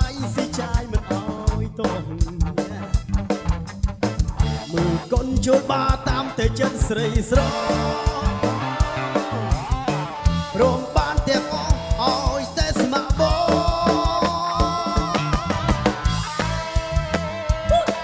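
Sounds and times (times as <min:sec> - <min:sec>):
person singing: 0:00.0 - 0:03.0, 0:04.6 - 0:18.0
music with drum beat: 0:00.0 - 0:18.0.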